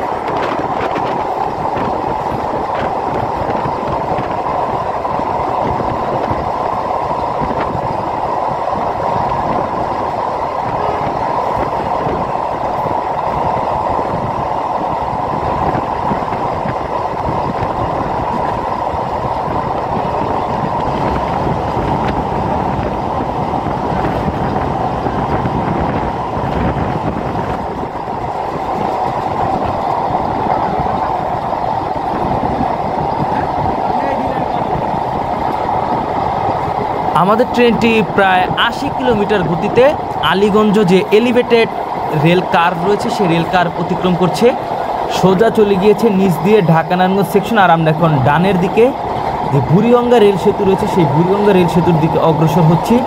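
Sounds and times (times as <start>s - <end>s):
train rolling rumble and rail roar: 0.0s - 53.0s.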